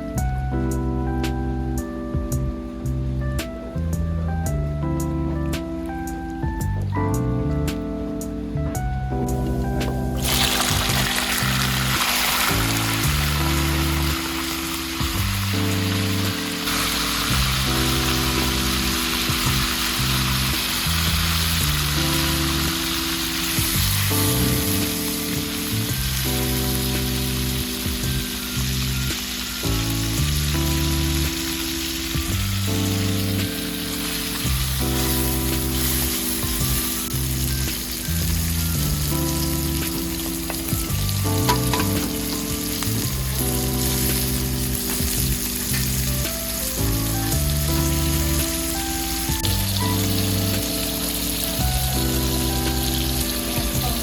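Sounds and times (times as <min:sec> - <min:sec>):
background music of low chords: 0:00.0 - 0:54.0
food sizzling in a pan: 0:10.0 - 0:54.0.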